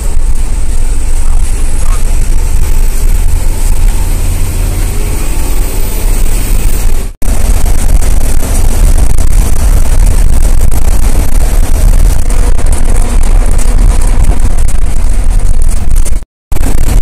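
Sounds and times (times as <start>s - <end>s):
bus engine and tyres rumbling: 0.0s - 17.0s.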